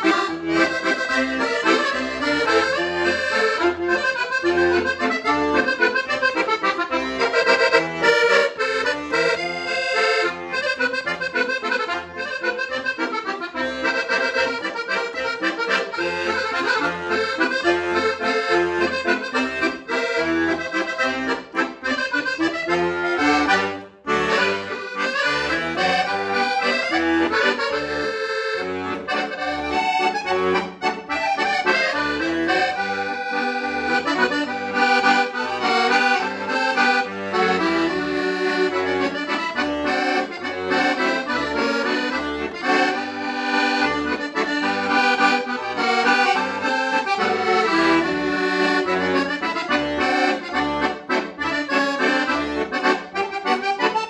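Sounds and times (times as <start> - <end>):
accordion playing a tune: 0.0 - 54.0.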